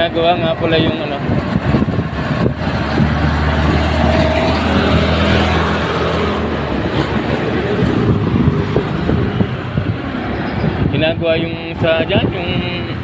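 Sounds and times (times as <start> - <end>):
road and traffic rumble: 0.0 - 13.0
wind rushing over microphone: 0.0 - 13.0.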